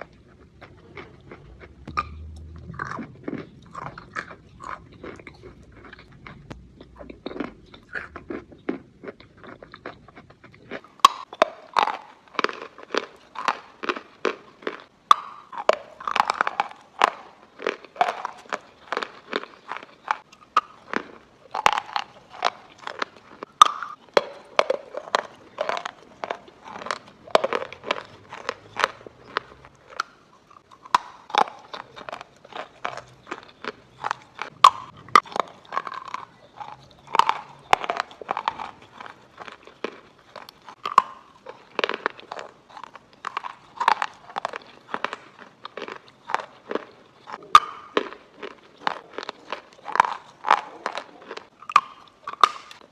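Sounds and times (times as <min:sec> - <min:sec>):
chalk crunching being chewed: 0:00.0 - 0:52.9.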